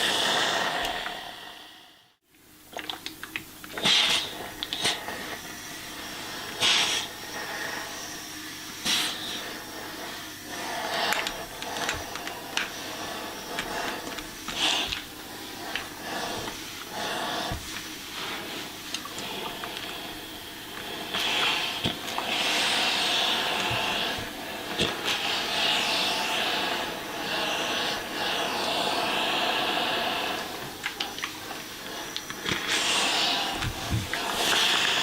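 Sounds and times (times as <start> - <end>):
steam iron hissing: 0.0 - 2.2, 3.7 - 35.0.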